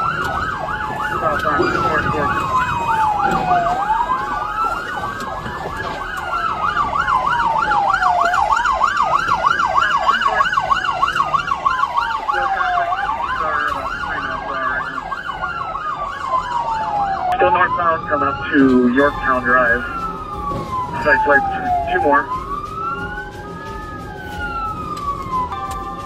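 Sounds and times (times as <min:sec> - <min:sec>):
police siren wailing: 0:00.0 - 0:26.0
police siren yelping: 0:00.0 - 0:26.0.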